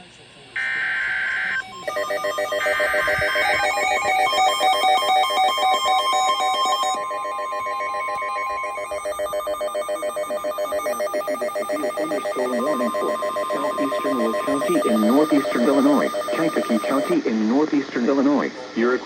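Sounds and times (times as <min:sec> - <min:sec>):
buzzy digital header burst: 0:00.6 - 0:17.2
trilling electronic alert tones: 0:00.6 - 0:17.2
steady alert tone: 0:01.5 - 0:17.2.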